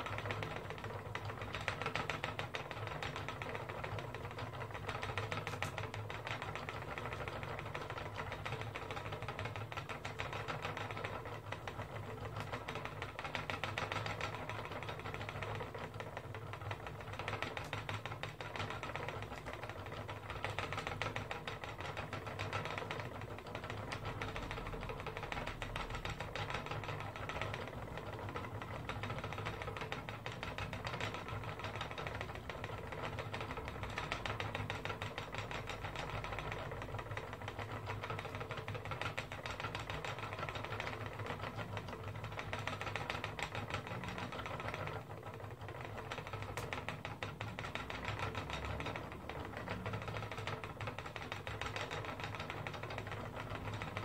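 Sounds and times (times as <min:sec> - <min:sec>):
spinning wheel whirring: 0:00.0 - 0:54.0.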